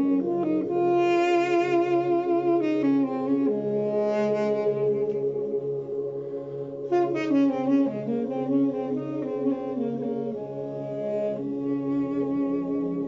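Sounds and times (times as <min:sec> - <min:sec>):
duduk melody: 0:00.0 - 0:13.0
low drone: 0:00.0 - 0:13.0.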